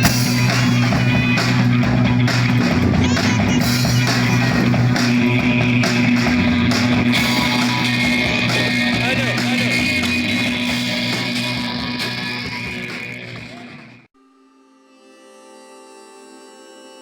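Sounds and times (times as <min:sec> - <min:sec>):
electric guitar: 0:00.0 - 0:14.0
loud noise rock band: 0:00.0 - 0:14.1.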